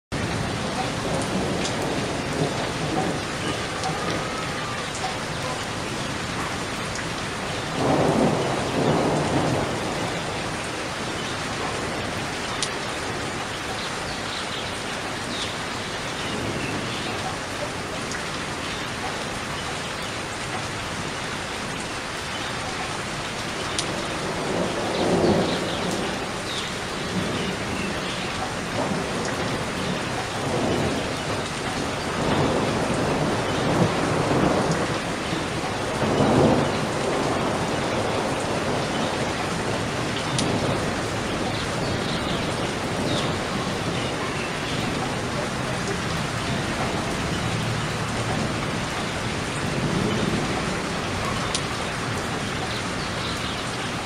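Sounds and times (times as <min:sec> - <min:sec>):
steady rain falling: 0:00.1 - 0:54.0
rolling thunder: 0:00.2 - 0:13.5, 0:23.5 - 0:54.0.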